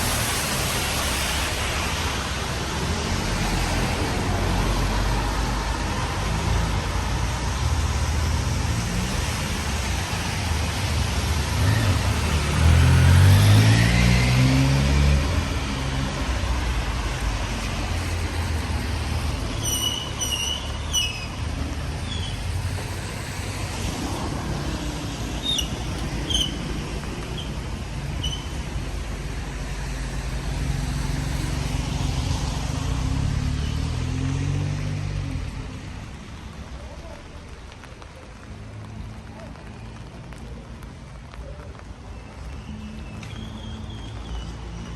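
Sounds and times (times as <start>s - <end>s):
rain hiss on wet road: 0.0s - 44.9s
vehicle passing on wet street: 0.0s - 44.9s.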